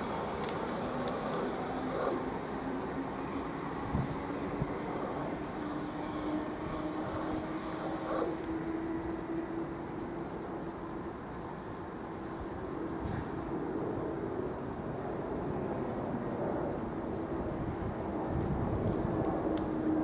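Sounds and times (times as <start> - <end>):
electric train rumbling on track: 0.0 - 20.0.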